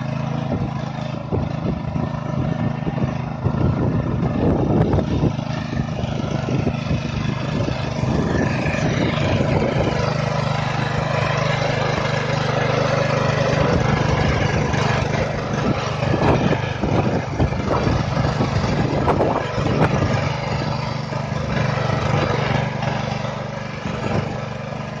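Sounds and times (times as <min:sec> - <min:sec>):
small engine running under load: 0:00.0 - 0:25.0
tines churning soil: 0:00.0 - 0:25.0.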